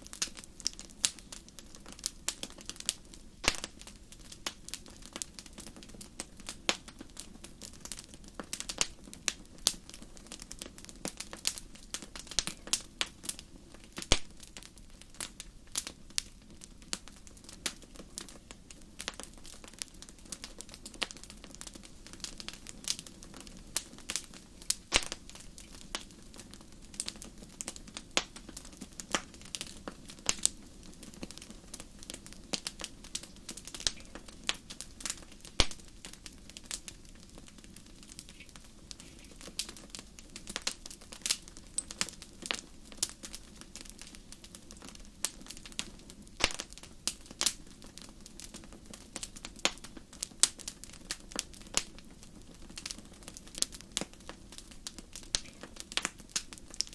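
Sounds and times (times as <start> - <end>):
low rush of burning fire: 0.0 - 56.9
wood fire crackling: 0.0 - 56.9.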